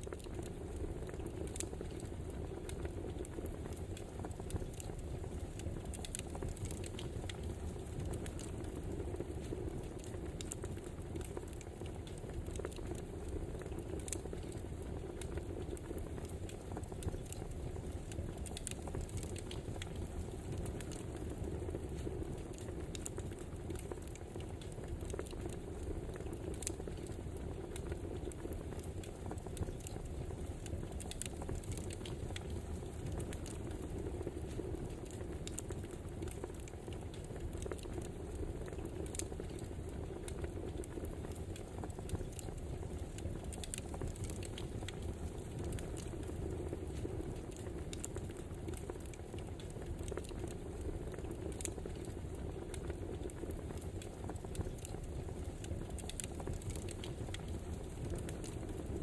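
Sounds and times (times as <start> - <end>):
low fire rumble and hiss: 0.0 - 59.0
wood fire crackling and popping: 0.0 - 59.0.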